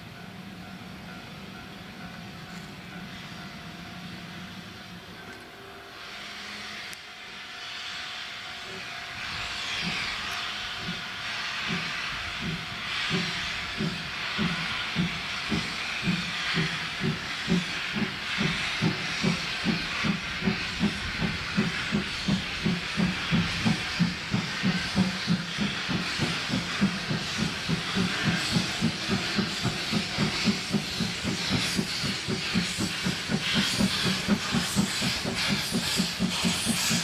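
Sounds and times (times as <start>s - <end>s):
steam locomotive exhaust chuffs: 0.0s - 37.0s
hiss of steam: 0.3s - 37.0s.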